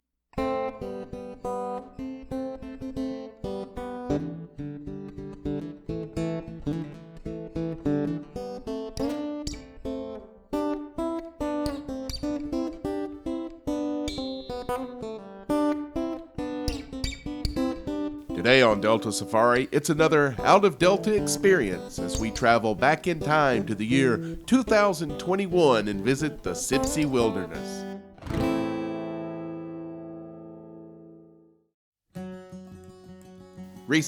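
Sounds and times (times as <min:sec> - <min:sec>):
bluesy acoustic guitar: 0:00.4 - 0:34.0.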